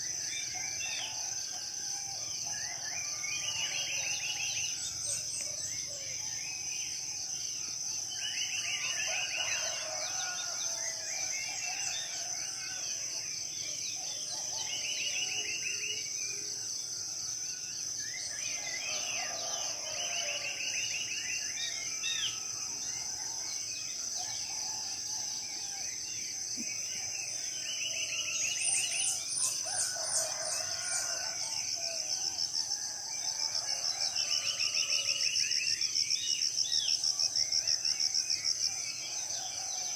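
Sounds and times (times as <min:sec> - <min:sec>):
forest birds calling: 0:00.0 - 0:39.9.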